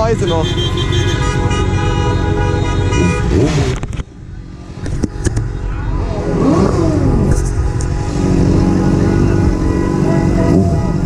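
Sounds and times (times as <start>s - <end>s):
car horns blaring: 0.0s - 3.8s, 5.0s - 11.0s
engine and traffic rumble: 0.0s - 11.0s.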